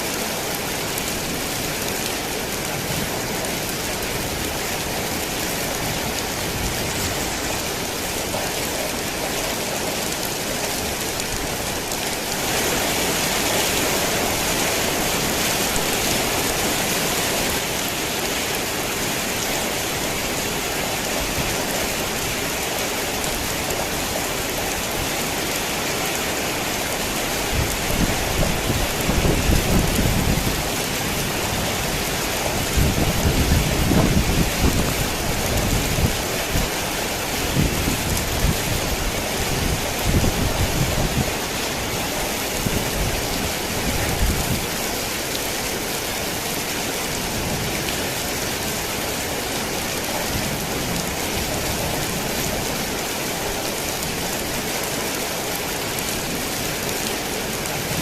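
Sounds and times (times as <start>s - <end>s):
heavy rain on a tin roof: 0.0s - 58.0s.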